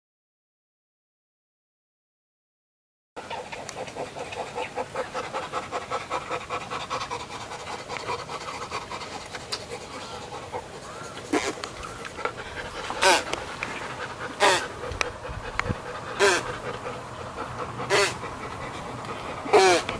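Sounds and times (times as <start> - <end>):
chimpanzee panting rapidly: 3.2 - 19.9.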